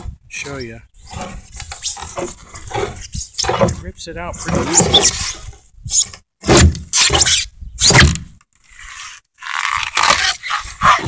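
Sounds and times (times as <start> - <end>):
crowbar scraping foam: 0.4 - 11.0.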